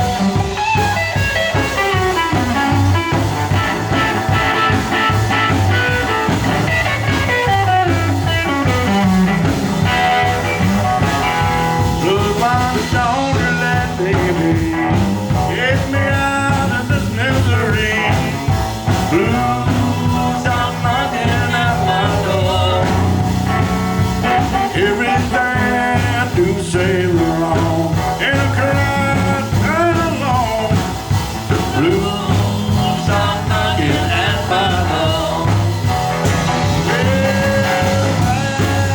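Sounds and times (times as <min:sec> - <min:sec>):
live blues band playing: 0:00.0 - 0:38.9.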